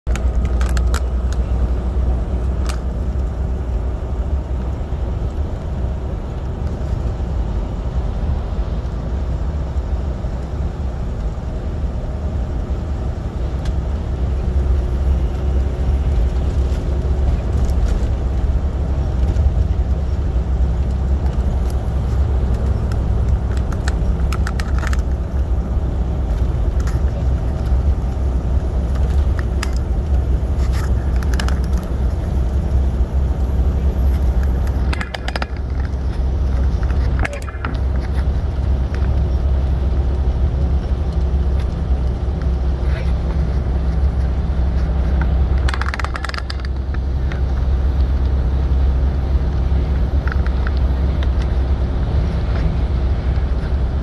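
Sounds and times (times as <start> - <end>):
truck engine and road drone: 0.0 - 54.0.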